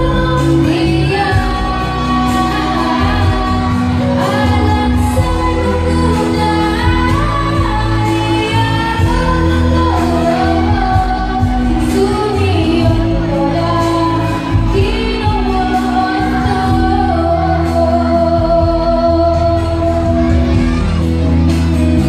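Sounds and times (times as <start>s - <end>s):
amplified backing music: 0.0s - 22.0s
woman singing into microphone: 0.0s - 22.0s.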